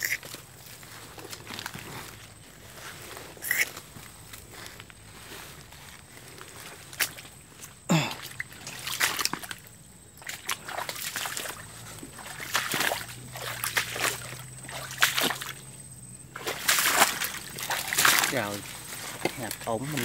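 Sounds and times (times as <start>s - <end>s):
footsteps splashing through water: 0.0s - 4.5s, 6.5s - 15.7s, 16.3s - 20.0s.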